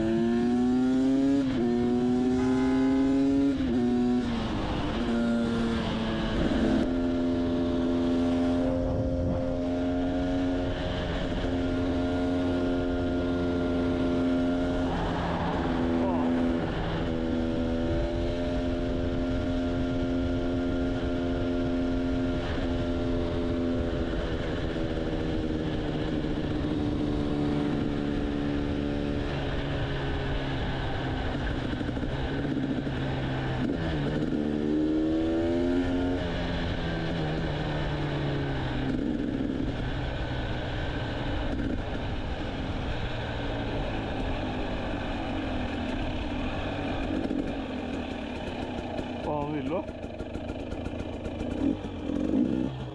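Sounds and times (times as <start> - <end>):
constant rushing noise: 0.0 - 52.9
motorcycle engine running: 0.0 - 52.9.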